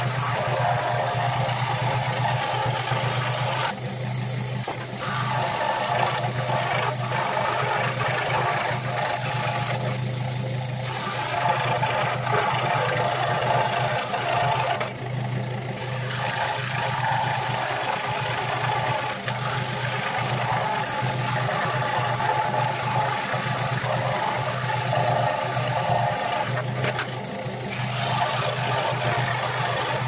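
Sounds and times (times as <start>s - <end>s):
scroll saw cutting wood: 0.0s - 30.0s.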